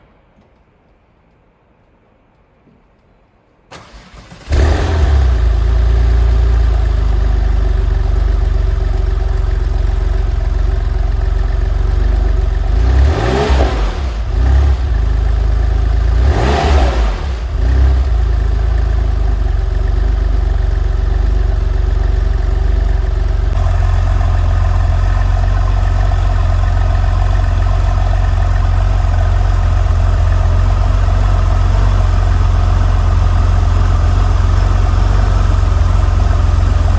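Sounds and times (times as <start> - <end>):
car engine idling and revving: 3.8 - 36.9.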